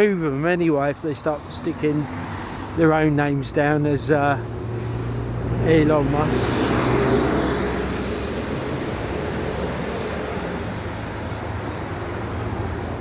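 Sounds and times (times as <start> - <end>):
passing vehicle rumble: 0.0 - 13.0.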